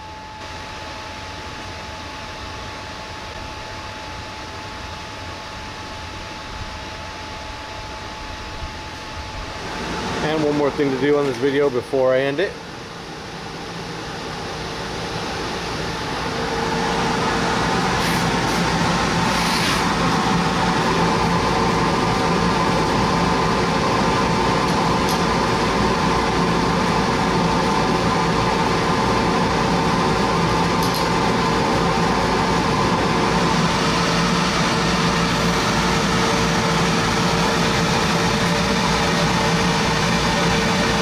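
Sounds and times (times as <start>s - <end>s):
blower whine: 0.0s - 41.0s
laser cutter whirring hum: 0.0s - 41.0s.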